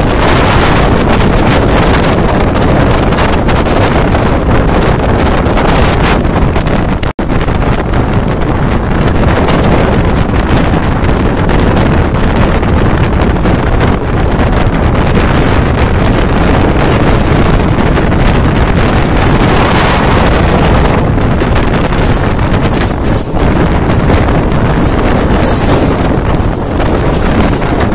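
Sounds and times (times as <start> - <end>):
train running on rails: 0.0 - 27.9
wind buffeting microphone: 0.0 - 27.9.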